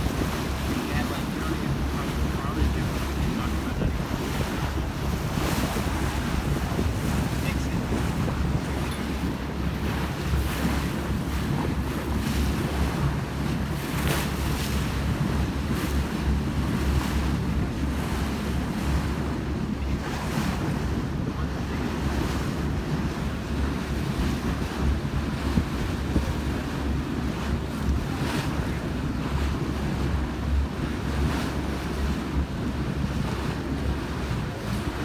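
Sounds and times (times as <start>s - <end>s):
water rushing along hull: 0.0s - 35.0s
wind buffeting microphone: 0.0s - 35.0s.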